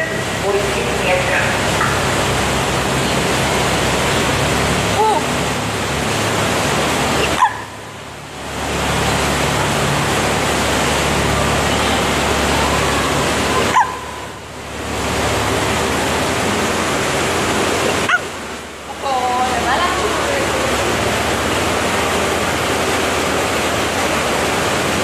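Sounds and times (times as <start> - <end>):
boat engine and wash rushing: 0.0 - 25.0
low hum: 0.0 - 25.0.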